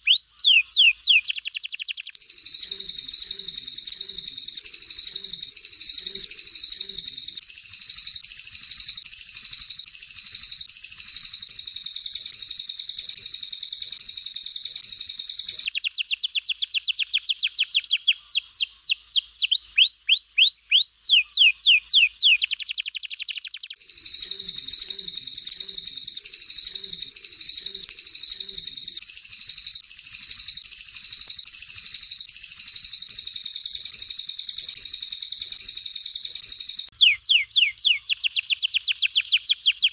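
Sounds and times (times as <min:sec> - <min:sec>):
falling whistled bird notes: 0:00.0 - 0:12.2, 0:14.7 - 0:39.9
high-pitched chattering birdsong: 0:00.0 - 0:39.9.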